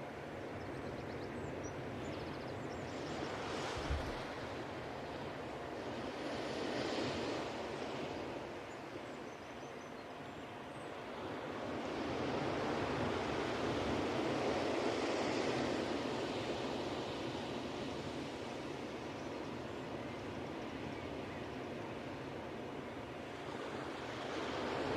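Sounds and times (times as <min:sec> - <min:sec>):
ocean waves washing onto beach: 0:03.0 - 0:09.1, 0:10.5 - 0:24.9.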